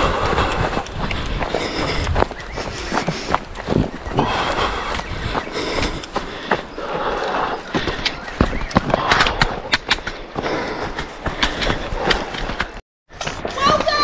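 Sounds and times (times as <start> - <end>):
running footsteps: 0.0 - 14.0.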